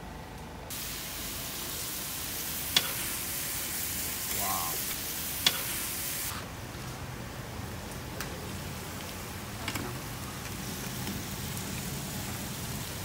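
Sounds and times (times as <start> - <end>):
meat sizzling on a griddle: 0.7 - 13.0.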